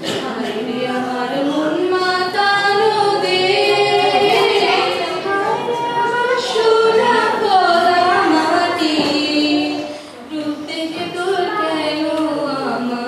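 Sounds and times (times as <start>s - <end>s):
girls singing: 0.0s - 13.0s.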